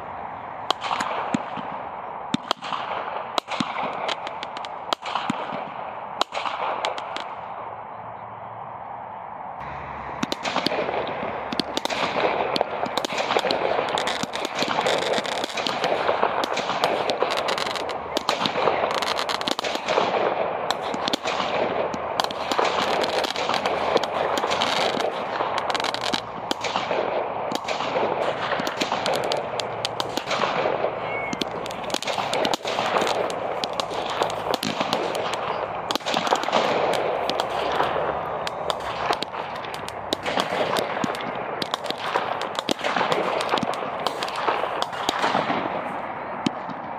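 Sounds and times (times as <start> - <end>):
fireworks bangs and crackle: 0.0 - 7.6, 9.6 - 46.9.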